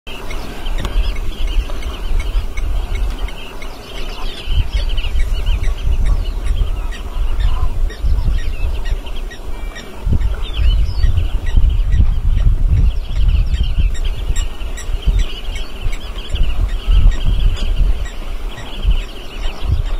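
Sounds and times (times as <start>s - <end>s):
birds chirping and calling: 0.1s - 19.9s.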